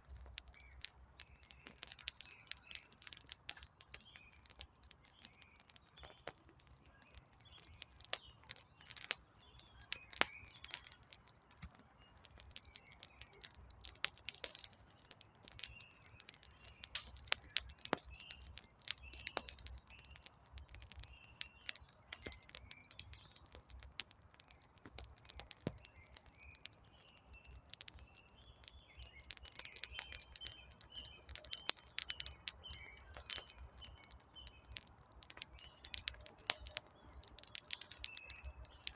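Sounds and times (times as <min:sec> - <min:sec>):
campfire crackling: 0:00.0 - 0:38.9
small birds chirping: 0:00.0 - 0:38.9.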